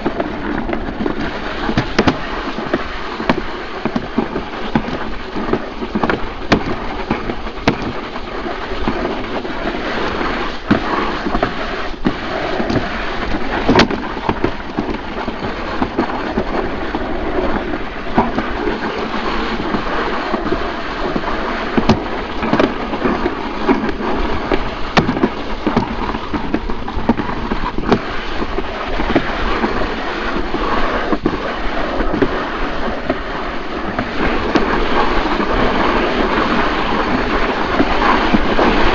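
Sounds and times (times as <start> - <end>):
sled rumbling and scraping in trough: 0.0 - 38.9.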